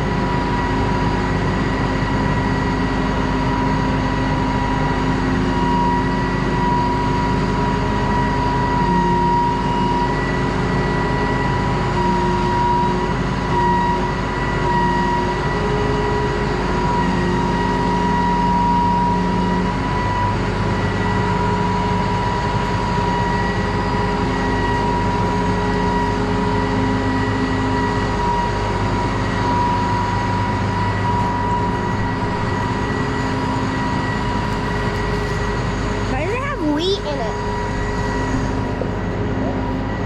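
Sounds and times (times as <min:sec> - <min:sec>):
farm vehicle engine running: 0:00.0 - 0:40.0.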